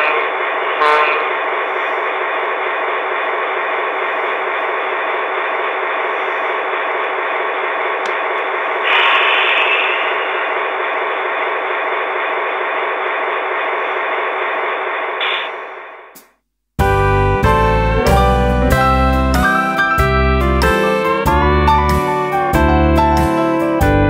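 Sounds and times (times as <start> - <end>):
model train diesel engine sound: 0.0 - 16.2, 16.8 - 24.0.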